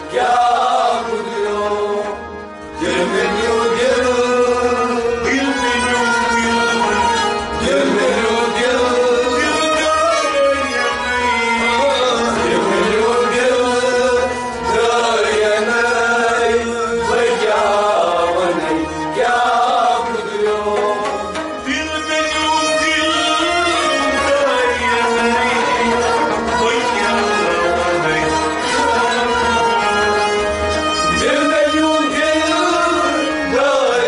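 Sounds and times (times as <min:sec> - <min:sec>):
harmonium drone: 0:00.0 - 0:34.0
men singing devotional song: 0:00.0 - 0:34.0
string accompaniment: 0:00.0 - 0:34.0.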